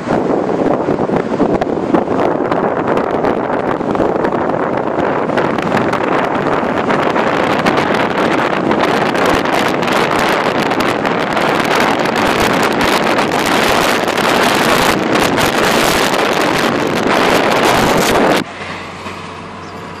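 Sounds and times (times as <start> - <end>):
wind on microphone: 0.0 - 18.5
car road noise: 0.0 - 20.0.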